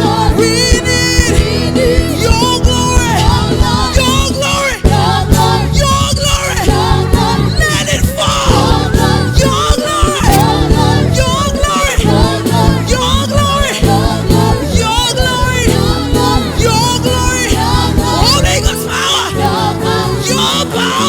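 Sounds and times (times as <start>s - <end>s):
band with bass and drums: 0.0s - 21.0s
singers with vibrato: 0.0s - 21.0s.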